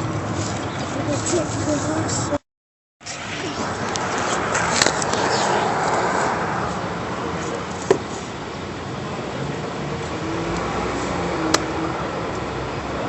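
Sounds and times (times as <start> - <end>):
street traffic noise: 0.0 - 2.4, 3.0 - 13.0.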